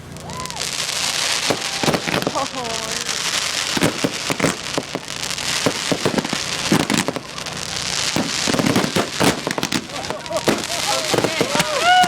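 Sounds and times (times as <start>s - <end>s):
fireworks bangs and pops: 0.0s - 12.0s
fireworks crackling hiss: 0.0s - 12.0s.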